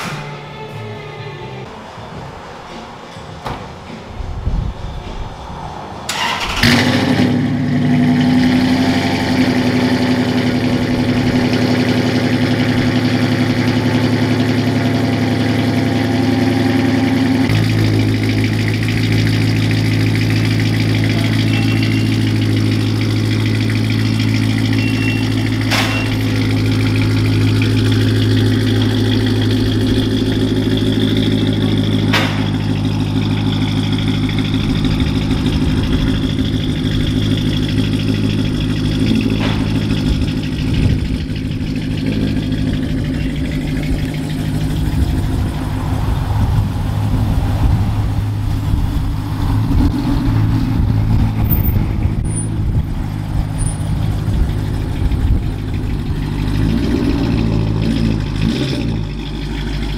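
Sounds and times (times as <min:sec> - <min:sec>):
car engine starting and idling: 0:05.6 - 0:59.9.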